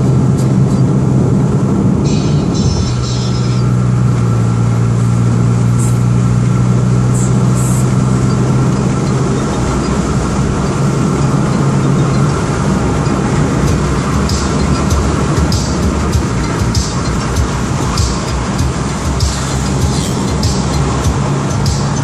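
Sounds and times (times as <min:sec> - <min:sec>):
car engine droning: 0:00.0 - 0:22.0
tyre and road noise: 0:00.0 - 0:22.0.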